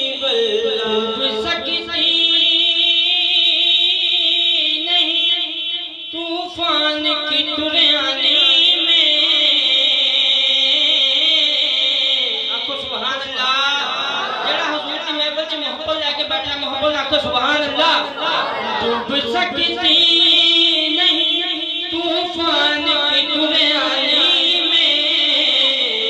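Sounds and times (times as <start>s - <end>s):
men singing over a pa: 0.0s - 15.0s, 17.3s - 26.0s.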